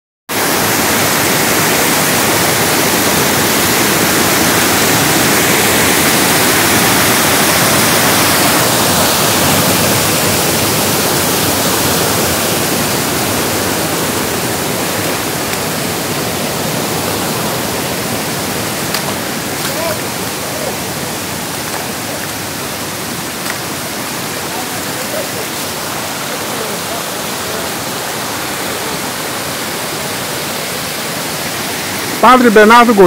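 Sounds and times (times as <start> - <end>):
stream water rushing over rocks: 0.3 - 33.0.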